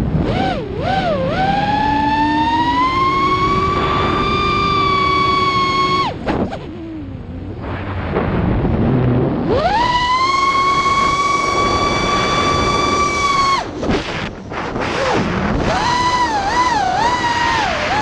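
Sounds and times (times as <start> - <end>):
quadcopter motors whining: 0.2 - 7.5, 9.5 - 18.0.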